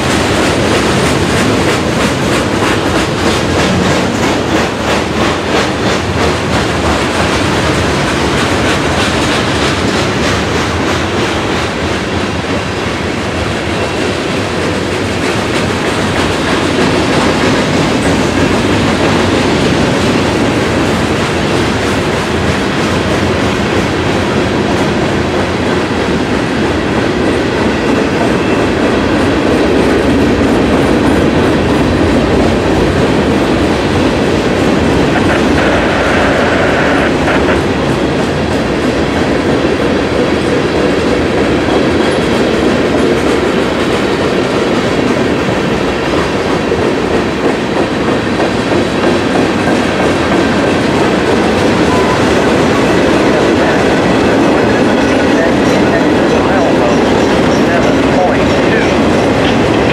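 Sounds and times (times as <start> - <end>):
high squeal of train: 0.0 - 59.9
train wheels clacking on rails: 0.0 - 59.9.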